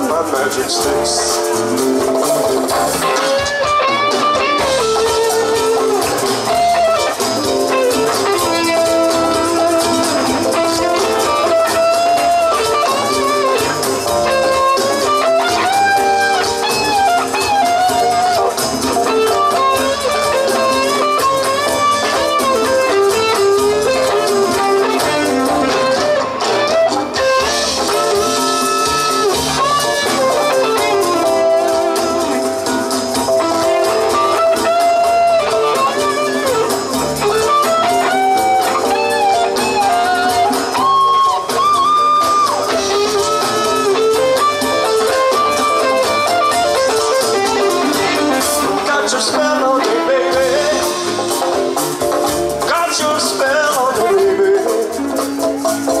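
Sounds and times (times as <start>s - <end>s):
drums and percussion: 0.0s - 56.0s
electric guitar solo: 0.0s - 56.0s.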